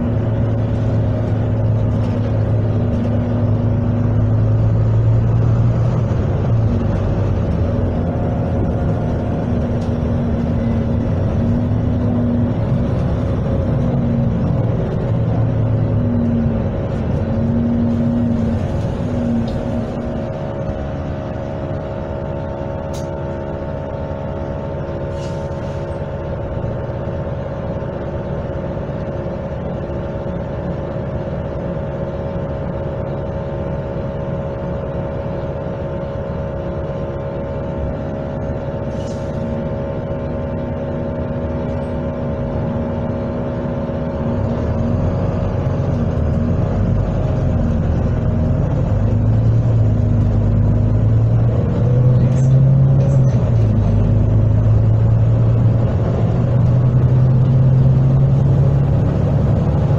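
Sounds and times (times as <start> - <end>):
bus engine droning: 0.0 - 59.9
road noise: 0.0 - 59.9.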